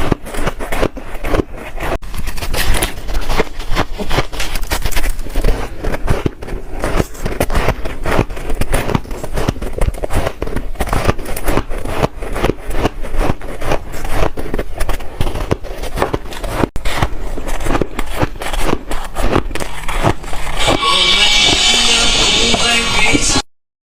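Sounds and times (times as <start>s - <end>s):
ice crunching being chewed: 0.0s - 20.7s.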